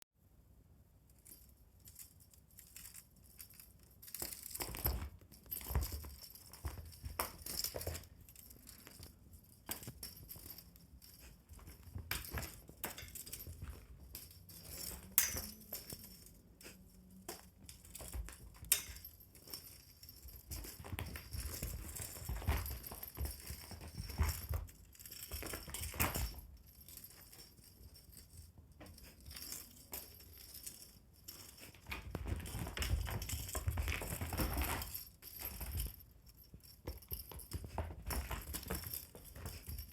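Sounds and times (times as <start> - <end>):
pets thumping and scuffling: 4.0 - 27.4, 28.8 - 39.9.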